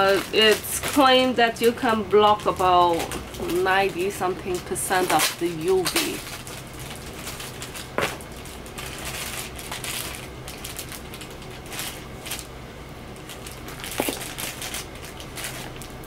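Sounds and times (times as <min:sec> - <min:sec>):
paper packaging rustling: 0:00.0 - 0:12.5, 0:13.2 - 0:16.0
low steady hum: 0:00.0 - 0:16.0.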